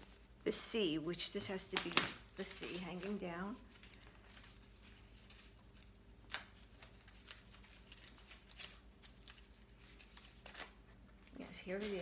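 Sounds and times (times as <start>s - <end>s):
low room hum: 0.0s - 12.0s
tissue paper rustling: 0.0s - 12.0s.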